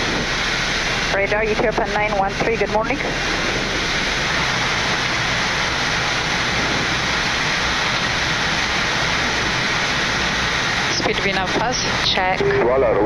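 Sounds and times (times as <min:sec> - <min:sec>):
air-conditioning hiss: 0:00.0 - 0:13.0
airflow rushing: 0:00.0 - 0:13.0.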